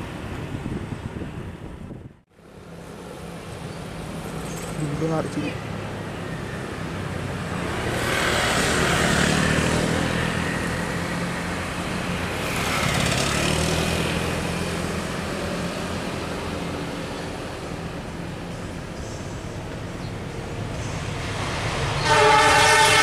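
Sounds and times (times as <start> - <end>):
diesel locomotive engine drone: 0.0 - 23.0
train rushing past: 2.6 - 23.0.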